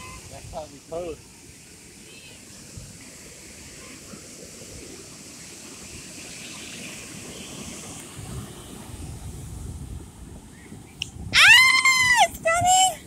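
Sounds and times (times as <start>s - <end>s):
ocean surf on beach: 0.0s - 13.0s
wind rumbling on microphone: 0.0s - 13.0s.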